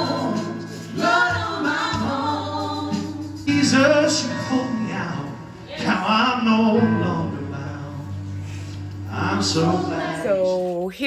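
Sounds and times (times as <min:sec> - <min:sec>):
people singing: 0:00.0 - 0:10.7
keyboards playing held chords: 0:00.0 - 0:11.0.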